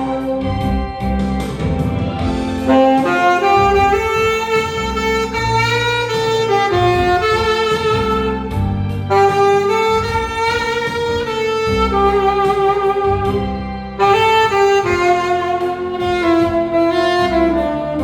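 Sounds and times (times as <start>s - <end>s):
backing accompaniment: 0.2s - 18.0s
tenor saxophone melody: 2.1s - 18.0s.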